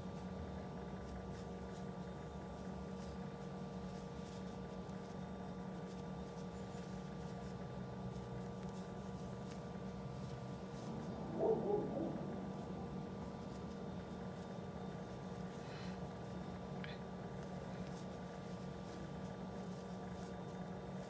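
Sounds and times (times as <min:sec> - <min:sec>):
crochet hook rustling yarn: 0:00.0 - 0:21.0
faint steady tones: 0:00.0 - 0:21.0
steady low hum: 0:00.0 - 0:21.0.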